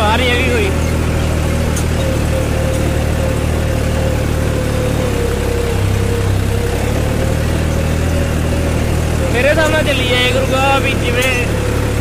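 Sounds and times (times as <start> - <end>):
steady whine: 0.0 - 12.0
tractor diesel engine running: 0.0 - 12.0.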